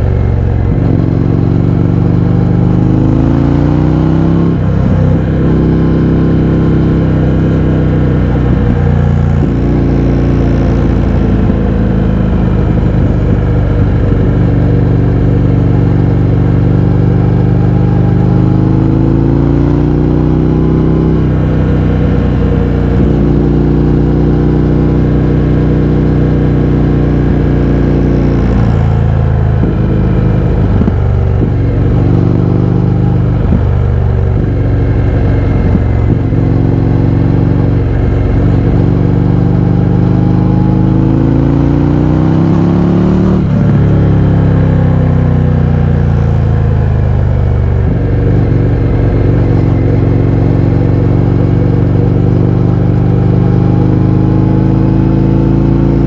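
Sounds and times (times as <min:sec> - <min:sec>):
loud motorcycle engine revving: 0:00.0 - 0:56.0.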